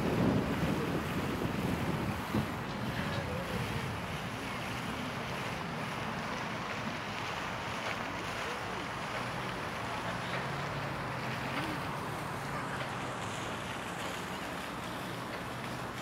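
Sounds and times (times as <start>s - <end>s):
wind-like hiss: 0.0s - 16.0s.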